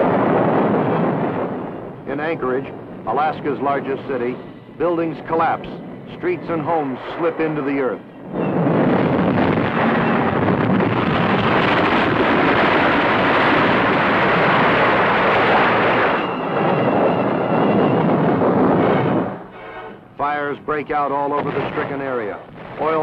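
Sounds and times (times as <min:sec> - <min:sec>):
earthquake rumble sound effect: 0:00.0 - 0:19.5.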